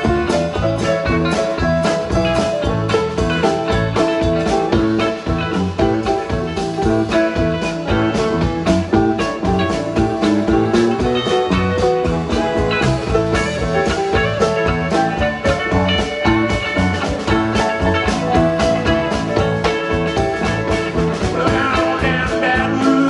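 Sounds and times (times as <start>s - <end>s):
electric guitar: 0.0s - 23.0s
live band playing: 0.0s - 23.0s.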